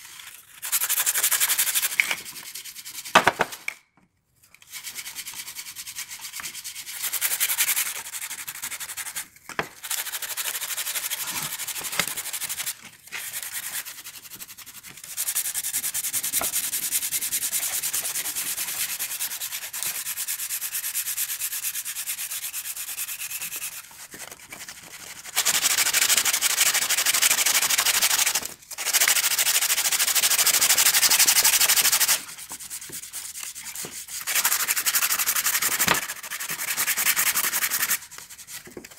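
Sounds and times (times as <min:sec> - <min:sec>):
sandpaper rubbing on wood: 0:00.2 - 0:03.2, 0:04.7 - 0:38.9.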